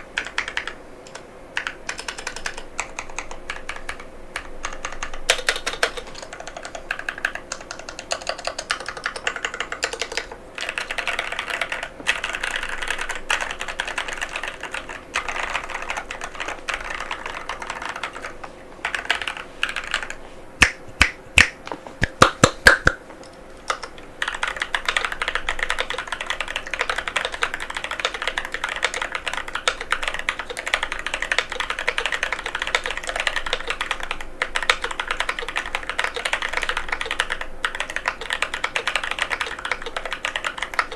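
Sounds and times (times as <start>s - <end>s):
fast mechanical keyboard typing: 0.0s - 20.8s, 23.7s - 40.9s.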